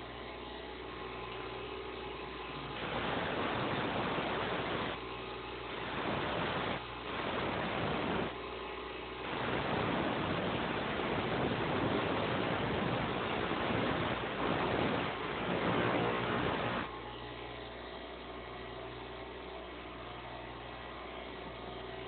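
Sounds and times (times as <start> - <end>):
grinder motor hum: 0.0 - 22.0.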